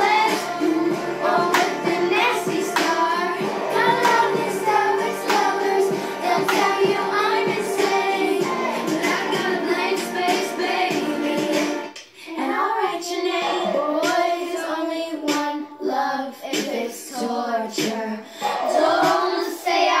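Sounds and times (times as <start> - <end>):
girls singing together: 0.0 - 20.0.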